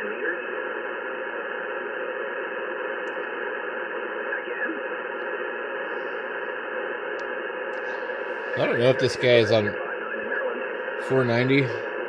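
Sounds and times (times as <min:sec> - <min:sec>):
radio receiver band noise hiss: 0:00.0 - 0:12.0.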